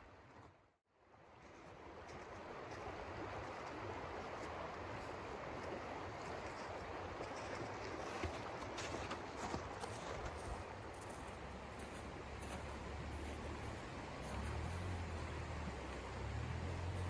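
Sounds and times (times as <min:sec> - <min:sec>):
stream running over stones: 0:00.1 - 0:17.0.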